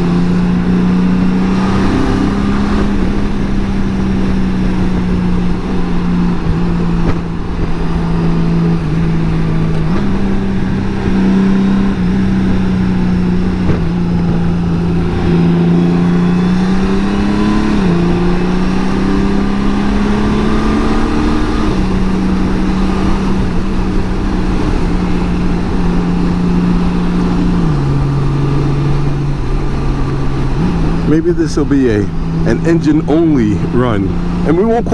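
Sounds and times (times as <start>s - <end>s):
motorcycle engine at highway speed: 0.0s - 34.9s.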